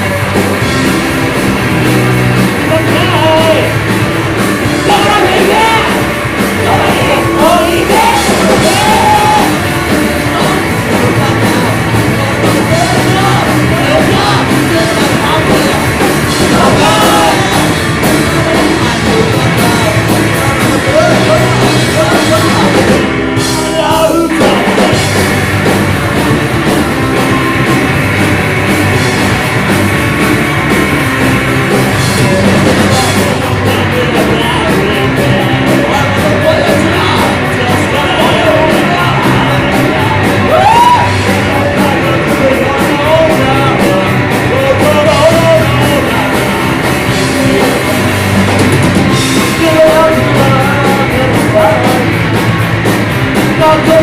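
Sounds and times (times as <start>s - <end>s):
live rock band playing: 0.0s - 54.0s
person singing: 2.6s - 25.3s, 31.8s - 52.6s, 53.4s - 54.0s.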